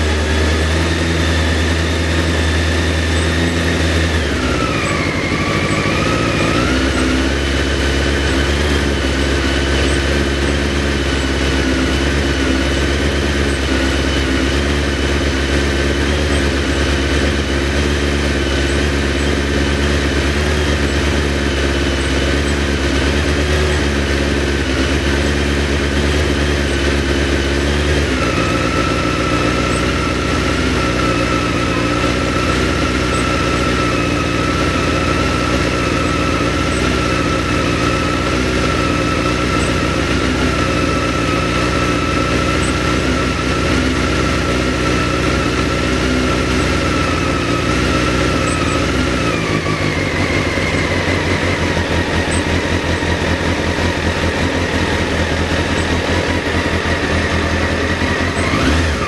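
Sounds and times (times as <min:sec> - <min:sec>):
engine whine: 0:00.0 - 0:59.0
motorcycle engine idling: 0:00.0 - 0:59.0.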